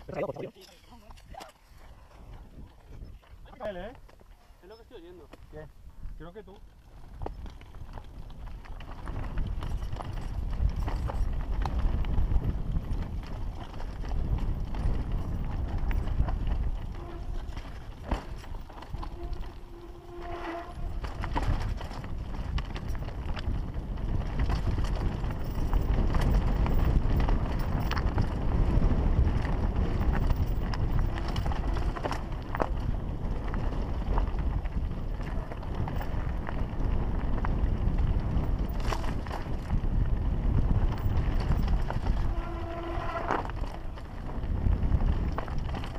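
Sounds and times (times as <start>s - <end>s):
wind rumble on microphone: 0.0s - 4.2s, 5.6s - 45.9s
bike rattling: 0.0s - 45.9s
tyres crunching on loose stones: 6.8s - 45.9s.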